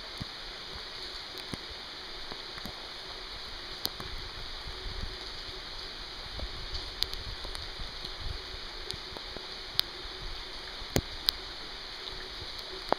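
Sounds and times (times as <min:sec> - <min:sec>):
steady rain: 0:00.0 - 0:12.9.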